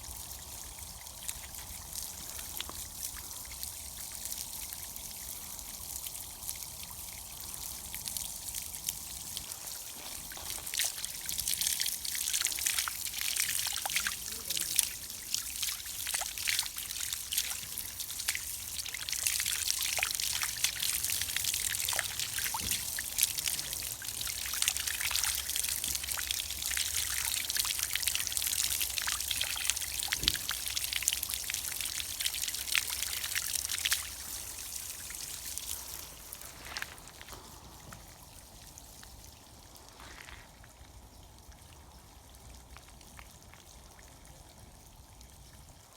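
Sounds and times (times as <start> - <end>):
water trickling and pouring: 0.0 - 45.9.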